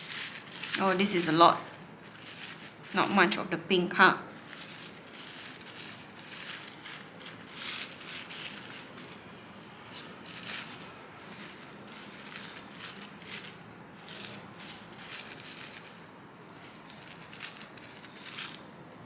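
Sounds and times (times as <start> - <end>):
plastic sheet crinkling: 0.0 - 3.4, 4.3 - 9.3, 9.9 - 16.0, 16.6 - 18.8.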